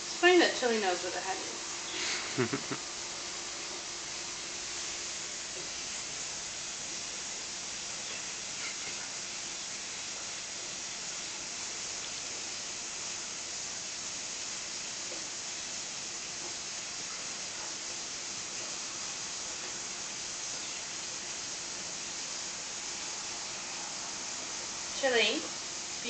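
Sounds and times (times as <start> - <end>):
steady recording hiss: 0.0 - 26.0.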